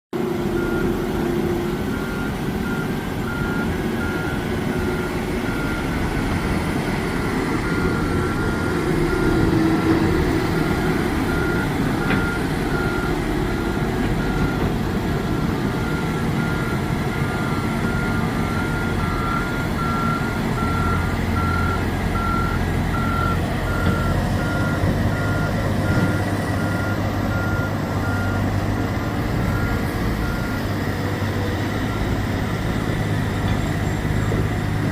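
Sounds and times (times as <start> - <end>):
truck engine rumble: 0.1 - 34.9
truck backup alarm beeping: 0.2 - 34.8.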